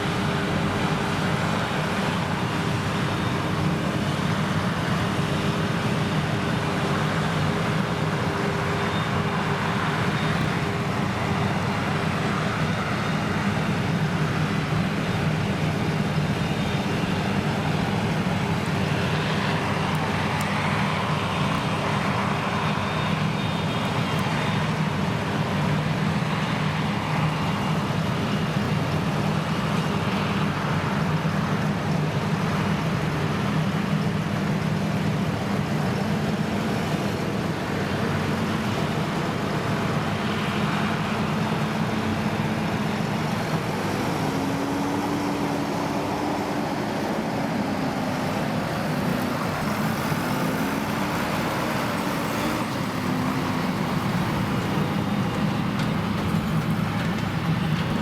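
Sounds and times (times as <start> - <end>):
forage harvester droning: 0.0 - 58.0.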